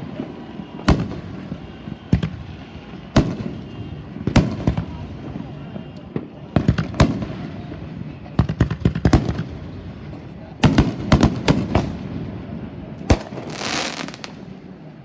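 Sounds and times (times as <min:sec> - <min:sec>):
firework bangs: 0:00.0 - 0:14.9.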